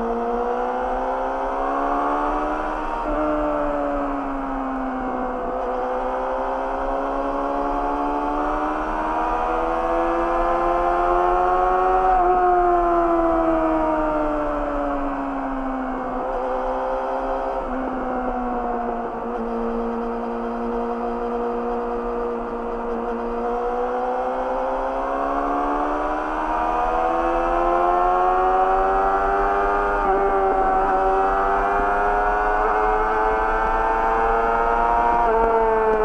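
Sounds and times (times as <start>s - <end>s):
motorcycle engine: 0.0s - 36.0s.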